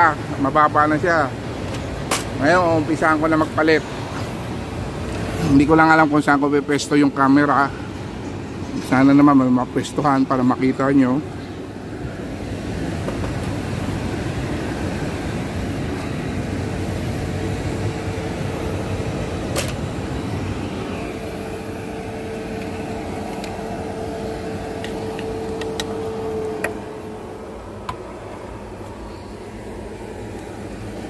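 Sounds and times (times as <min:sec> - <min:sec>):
machinery drone: 0:00.0 - 0:31.0
steady whine: 0:00.0 - 0:31.0.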